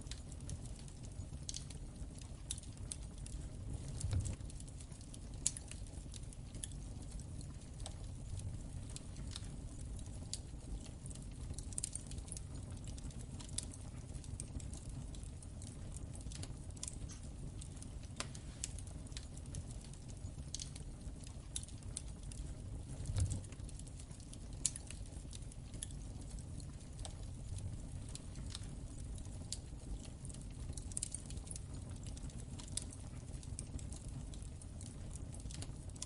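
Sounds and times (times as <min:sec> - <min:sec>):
low rumble of flames: 0:00.0 - 0:36.0
wood fire popping and snapping: 0:00.0 - 0:36.0.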